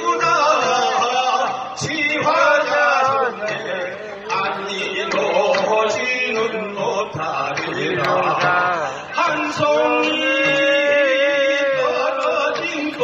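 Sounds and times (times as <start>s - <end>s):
band accompaniment: 0.0s - 13.0s
man singing live: 0.0s - 13.0s.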